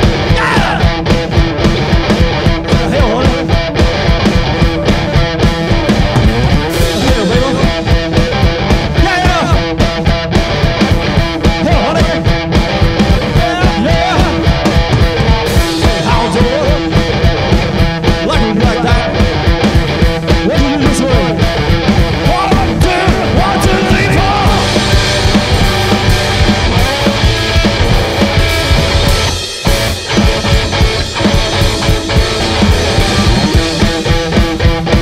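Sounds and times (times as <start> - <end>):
electric guitar lead lines: 0.0 - 35.0
fast drum beat: 0.0 - 35.0.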